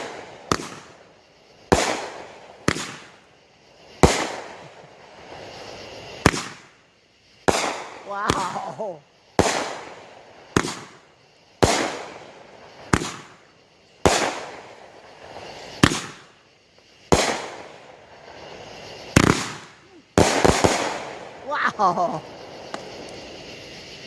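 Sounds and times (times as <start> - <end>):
fireworks exploding: 0.0 - 24.0.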